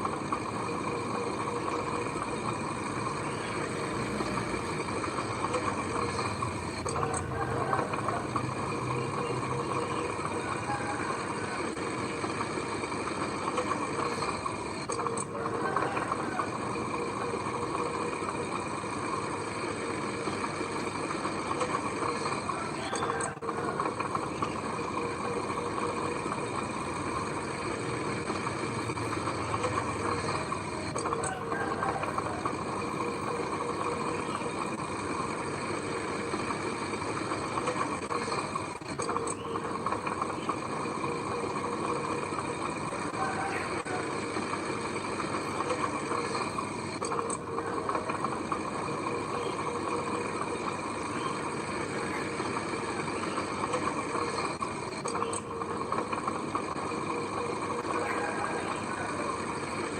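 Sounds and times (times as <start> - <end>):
diesel machinery engine running: 0.0 - 59.9.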